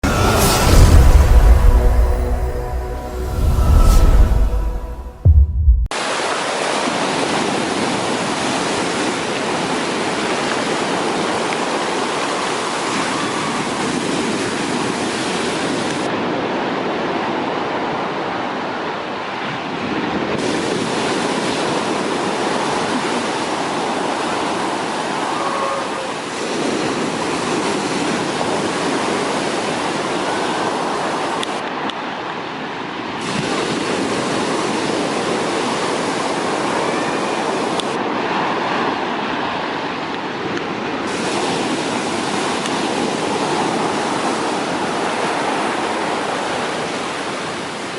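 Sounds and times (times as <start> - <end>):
waves breaking on beach: 5.9 - 47.9.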